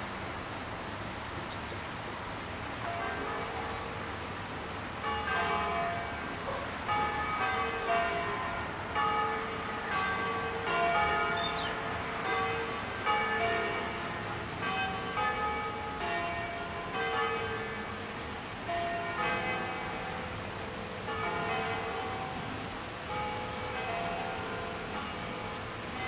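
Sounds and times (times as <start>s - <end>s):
church bells pealing: 2.8s - 4.0s, 5.0s - 26.0s.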